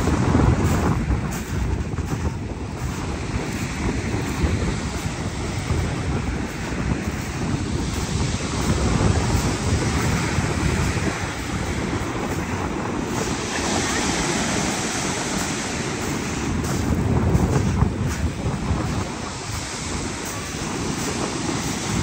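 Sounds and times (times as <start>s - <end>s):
surf breaking and washing ashore: 0.0s - 22.0s
wind rumbling on microphone: 0.0s - 22.0s.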